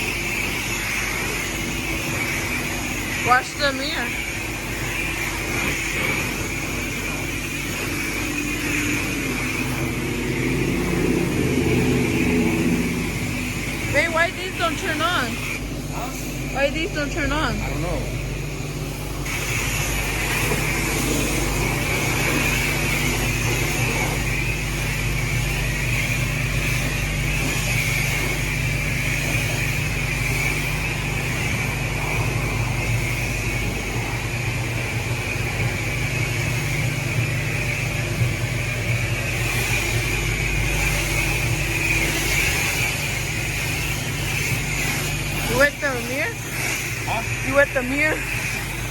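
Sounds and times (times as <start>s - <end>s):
pressure washer spray hiss: 0.0s - 48.9s
steady low hum: 0.0s - 48.9s.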